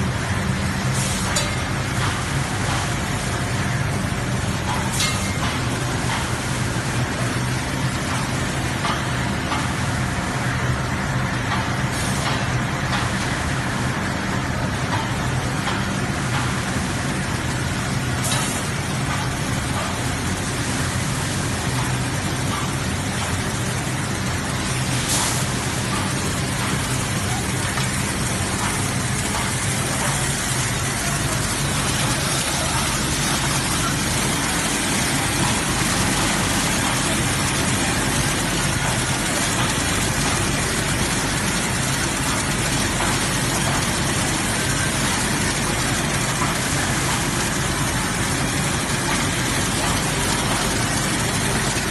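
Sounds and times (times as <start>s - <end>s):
packing machine running: 0.0s - 51.9s.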